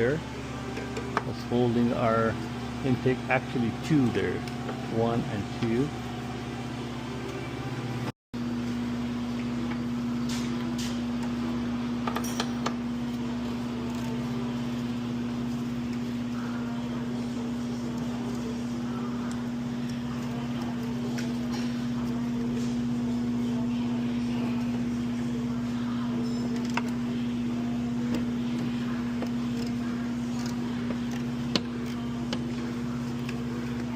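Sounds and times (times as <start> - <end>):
steady mechanical hum: 0.0 - 33.9.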